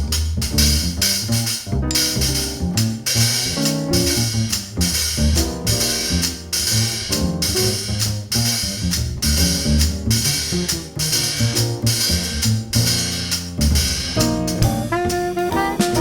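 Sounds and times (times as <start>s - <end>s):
bass line and chords: 0.0s - 16.0s
jazz drum kit: 0.0s - 16.0s.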